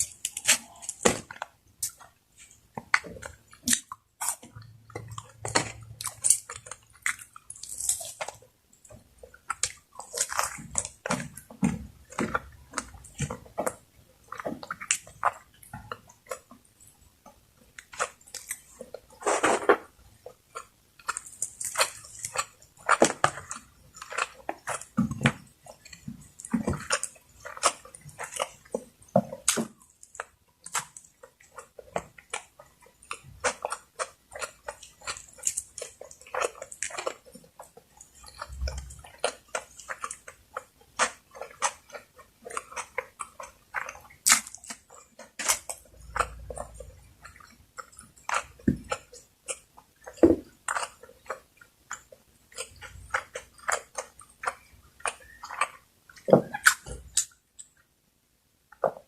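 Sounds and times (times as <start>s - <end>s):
wet chewing and mouth smacks: 0.0s - 58.0s, 58.7s - 59.0s.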